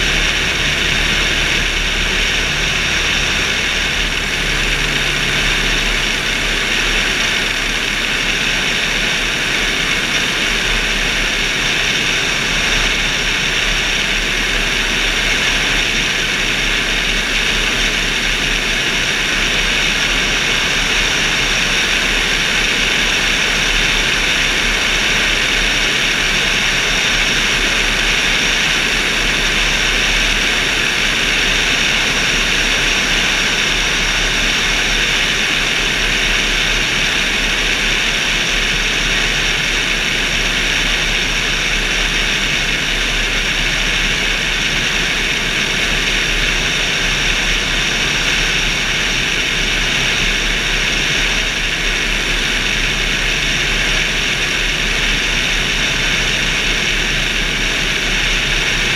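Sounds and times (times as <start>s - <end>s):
constant drone: 0.0s - 58.9s.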